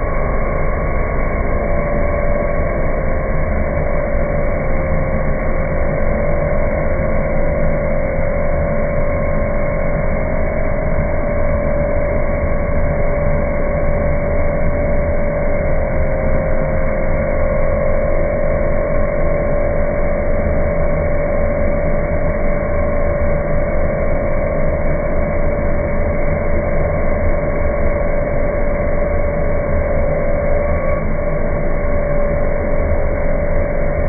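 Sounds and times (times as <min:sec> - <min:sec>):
cnc router running: 0:00.0 - 0:34.0.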